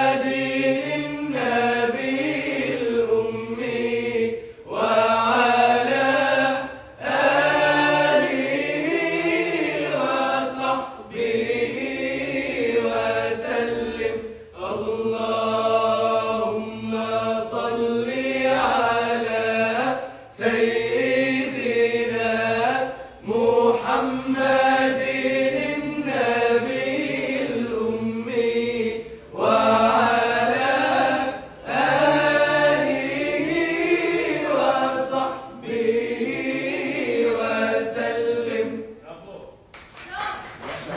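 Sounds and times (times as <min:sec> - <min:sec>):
men singing devotional chant: 0:00.0 - 0:39.0.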